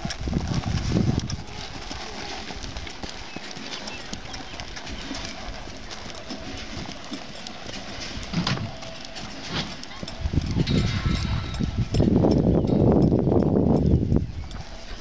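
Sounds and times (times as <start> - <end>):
horse hoofbeats on dirt: 0.0 - 15.0.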